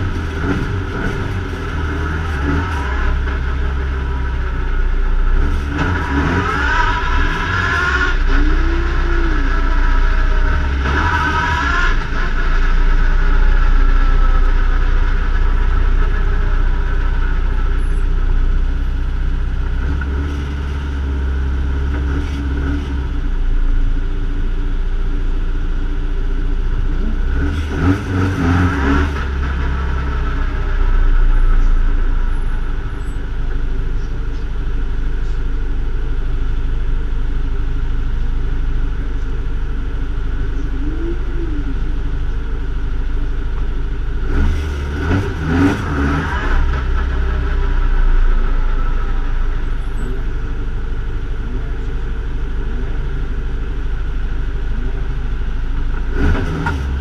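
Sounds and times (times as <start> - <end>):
engine revving: 0.0 - 25.3, 26.0 - 57.0
race car engine idling: 0.0 - 57.0.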